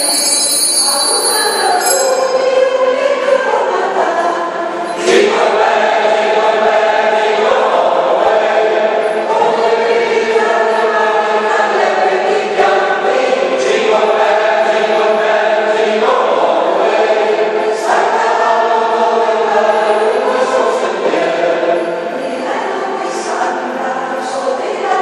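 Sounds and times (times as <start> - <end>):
mixed choir singing chords: 0.0 - 25.0.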